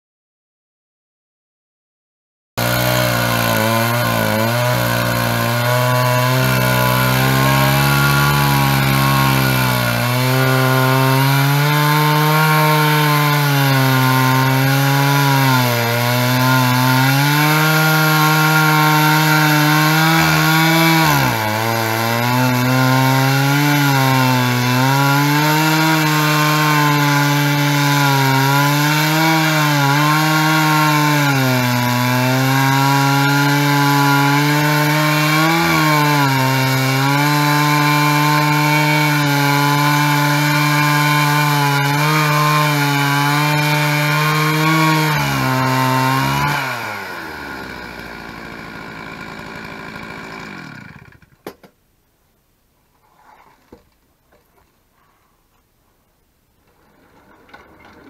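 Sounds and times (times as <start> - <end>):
chainsaw cutting a log: 2.6 - 51.7.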